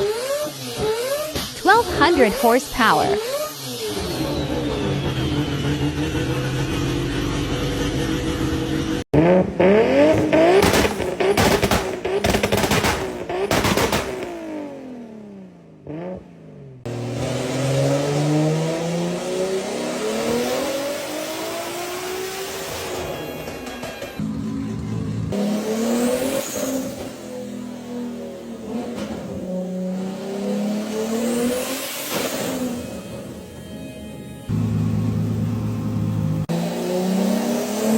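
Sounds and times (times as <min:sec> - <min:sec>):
turbocharged car engine: 0:00.0 - 0:37.9.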